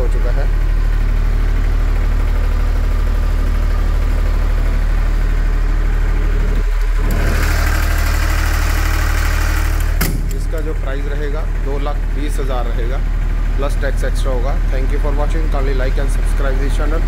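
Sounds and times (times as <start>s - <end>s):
diesel generator running: 0.0s - 17.0s.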